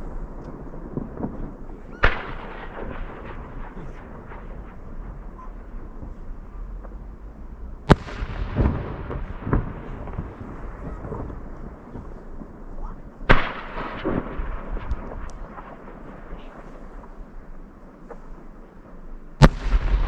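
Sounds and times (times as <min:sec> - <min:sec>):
low booms and cracks: 0:00.0 - 0:20.0.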